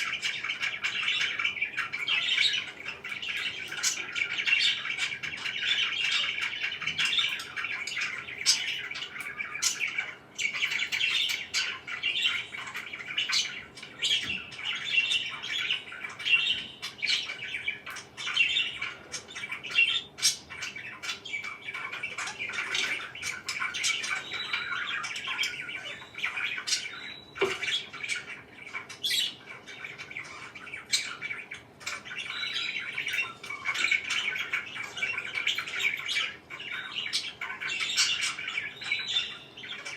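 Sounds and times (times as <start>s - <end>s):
parakeets chirping and squawking: 0.0s - 39.9s.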